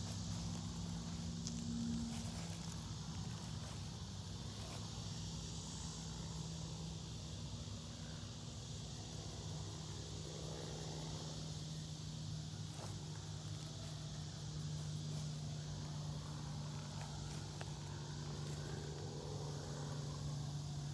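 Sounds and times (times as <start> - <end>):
high insect drone: 0.0 - 20.9
low steady hum: 0.0 - 20.9.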